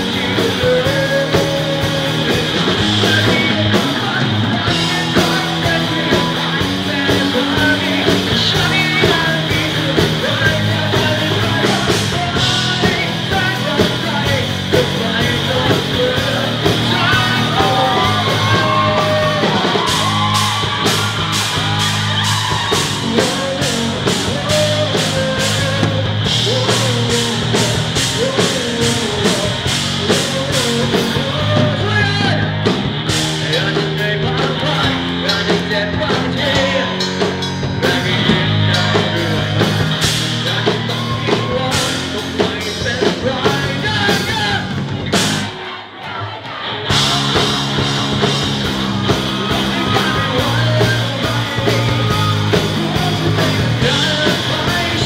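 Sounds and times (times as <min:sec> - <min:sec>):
drum kit: 0:00.0 - 0:55.0
electric guitar: 0:00.0 - 0:55.0
man singing and yelling: 0:00.0 - 0:55.0.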